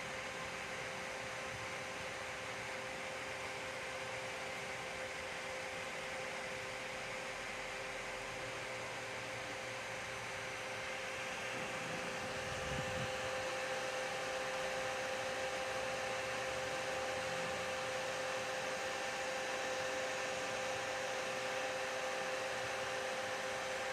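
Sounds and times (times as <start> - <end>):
computer fan whirring: 0.0 - 23.9.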